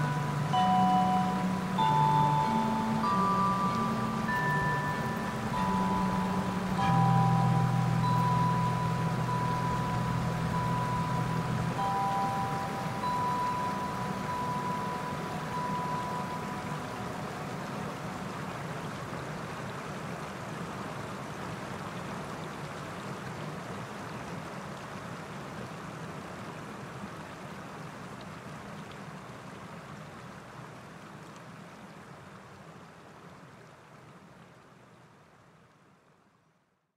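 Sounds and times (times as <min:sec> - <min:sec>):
stream flowing over stones: 0:00.0 - 0:36.4.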